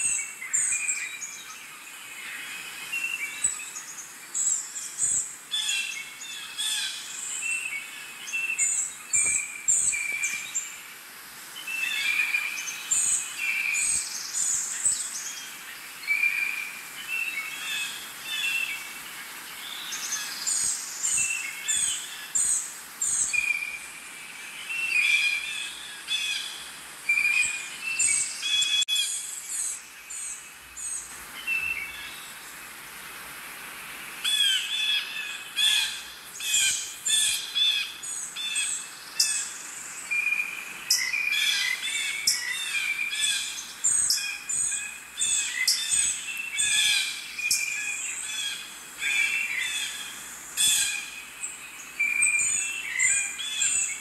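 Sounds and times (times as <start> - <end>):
birds chirping and whistling: 2.9 - 10.7, 11.6 - 18.9, 19.6 - 32.3, 34.3 - 54.0.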